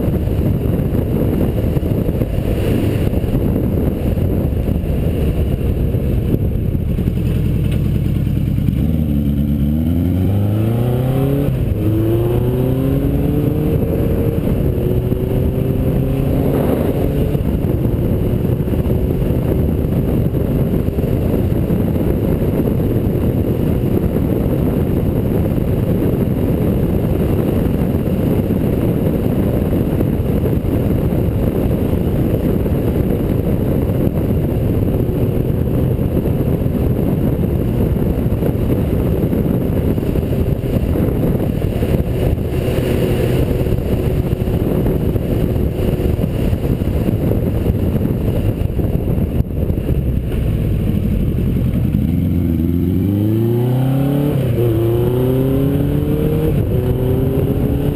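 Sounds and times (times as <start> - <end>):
motorcycle engine accelerating: 0.0 - 57.9
wind buffeting microphone: 0.0 - 57.9.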